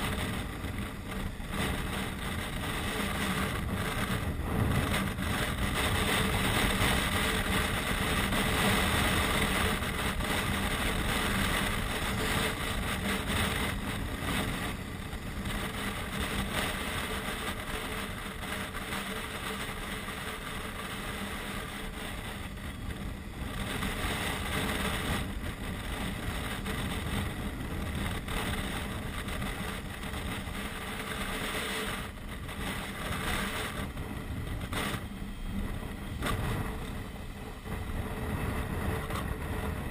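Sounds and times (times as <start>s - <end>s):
motorcycle engine hum: 0.0s - 39.9s
wind rushing over helmet: 0.0s - 39.9s.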